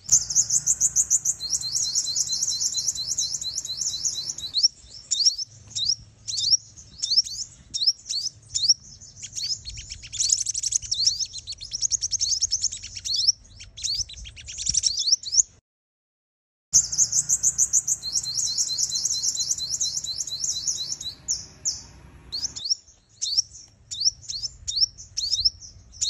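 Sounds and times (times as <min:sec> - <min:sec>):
high chirps and trills of bird: 0:00.0 - 0:15.6, 0:16.8 - 0:26.0.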